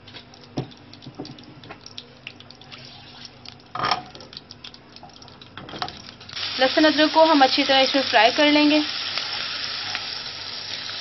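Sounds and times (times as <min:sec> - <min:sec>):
oil crackling and popping in pan: 0:00.0 - 0:11.0.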